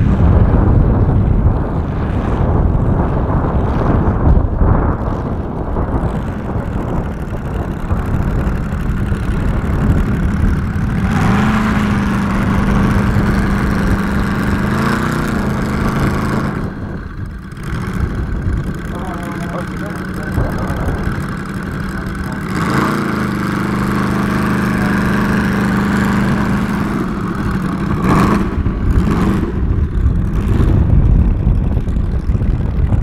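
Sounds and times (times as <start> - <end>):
model aircraft engine running: 0.0 - 33.0.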